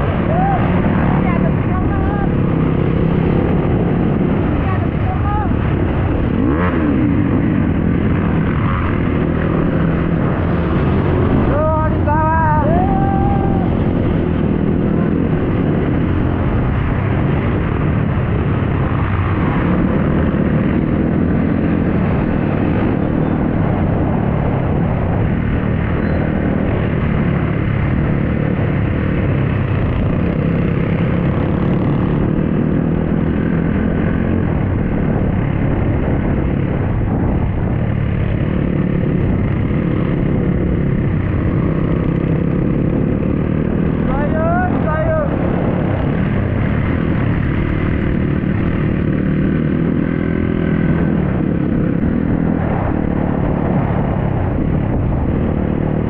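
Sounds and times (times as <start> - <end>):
dirt bike engine running: 0.0 - 56.0
rush of noise: 0.0 - 56.0.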